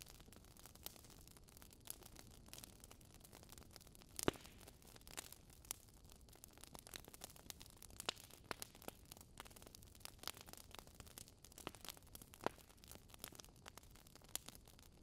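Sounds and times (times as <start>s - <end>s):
faint crackling and clicking: 0.0s - 15.0s.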